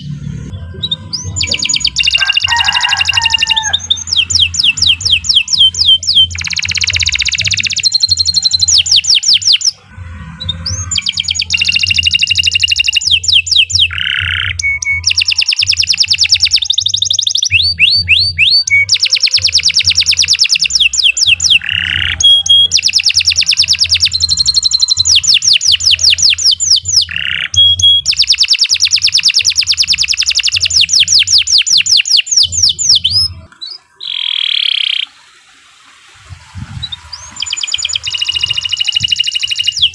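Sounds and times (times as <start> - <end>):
canary singing trills: 0.0 - 35.3, 36.3 - 39.9.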